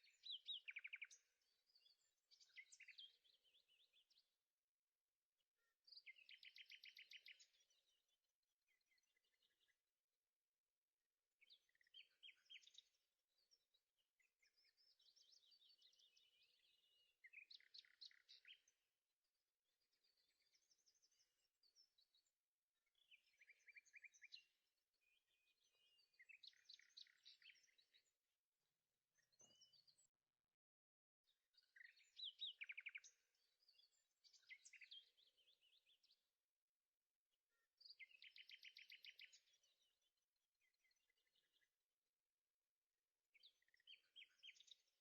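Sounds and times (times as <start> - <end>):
faint bird chirping: 0.0 - 36.6, 37.3 - 42.2, 42.9 - 45.0.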